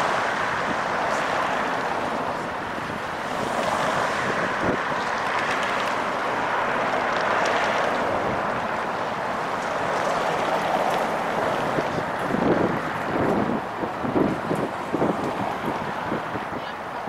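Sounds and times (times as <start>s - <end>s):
trains rolling on track: 0.0s - 17.0s.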